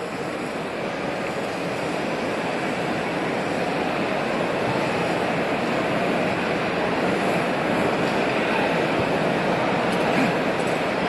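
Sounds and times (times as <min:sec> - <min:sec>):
blowtorch hissing: 0:00.0 - 0:11.0.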